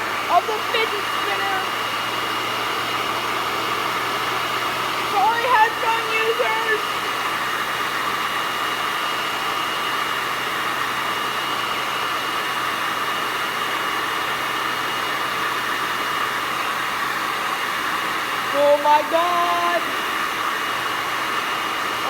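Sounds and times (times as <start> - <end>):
hair dryer blowing air: 0.0 - 22.0.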